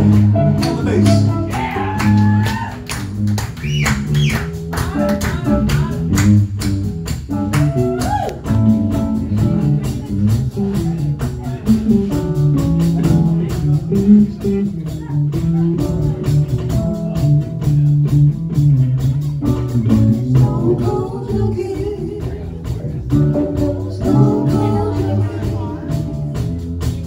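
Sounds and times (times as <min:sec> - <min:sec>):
drum kit: 0:00.0 - 0:27.0
electric bass: 0:00.0 - 0:27.0
electric guitars: 0:00.0 - 0:27.0.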